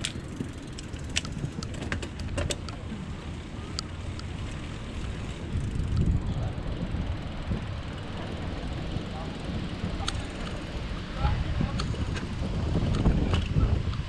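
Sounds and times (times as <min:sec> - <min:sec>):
bicycle clicks and rattles: 0:00.0 - 0:14.0
wind rumbling on microphone: 0:00.0 - 0:14.0.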